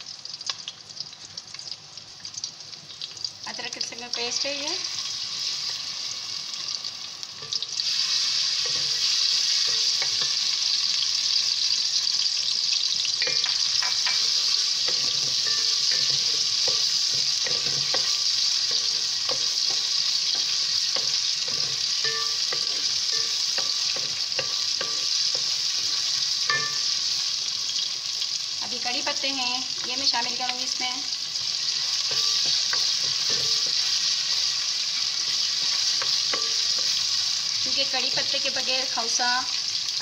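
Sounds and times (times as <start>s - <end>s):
onions sizzling in hot oil: 0.0s - 40.0s.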